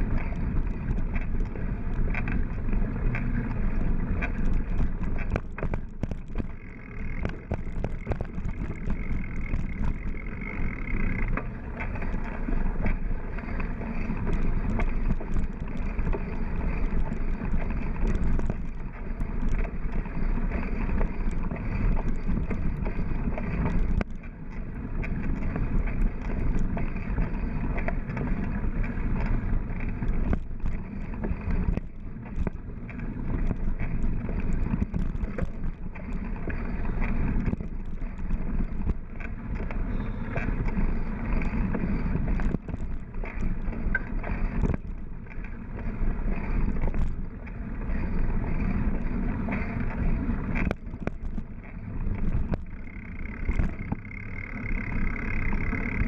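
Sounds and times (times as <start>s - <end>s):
bike rattling and knocking: 0.0s - 56.0s
bike tyres rumbling on dirt: 0.0s - 56.0s
wind on microphone: 0.0s - 56.0s.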